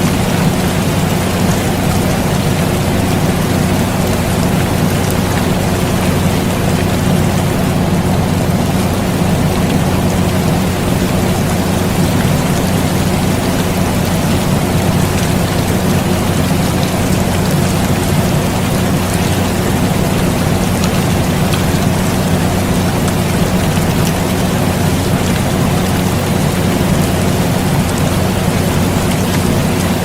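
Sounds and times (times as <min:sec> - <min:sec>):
air conditioner humming: 0:00.0 - 0:30.0
steady rain falling: 0:00.0 - 0:30.0.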